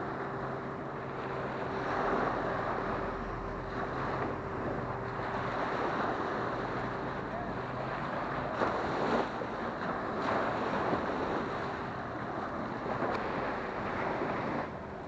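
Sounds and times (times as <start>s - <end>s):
small waves washing on sand: 0.0s - 15.0s
surf surging: 0.0s - 15.0s.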